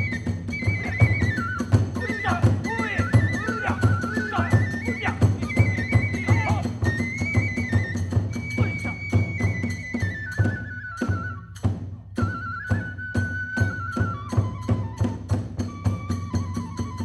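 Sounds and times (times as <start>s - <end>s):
bamboo flute melody: 0.0s - 17.0s
drum beats: 0.0s - 17.0s.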